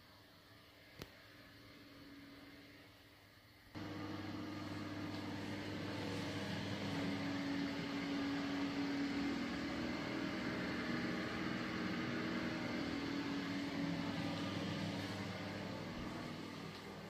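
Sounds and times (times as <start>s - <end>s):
ventilation fan humming: 0.7s - 17.0s.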